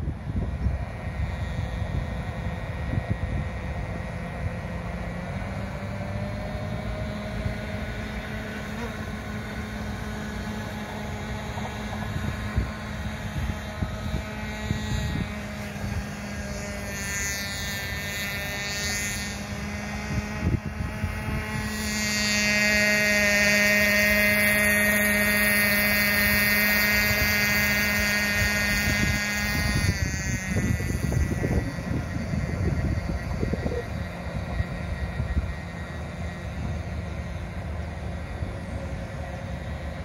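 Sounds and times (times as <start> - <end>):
model boat engine buzzing: 0.0 - 40.0.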